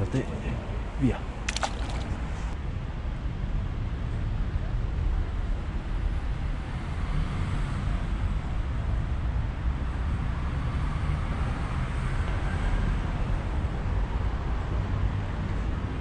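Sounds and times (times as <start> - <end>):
outdoor background rumble and hiss: 0.0 - 16.0.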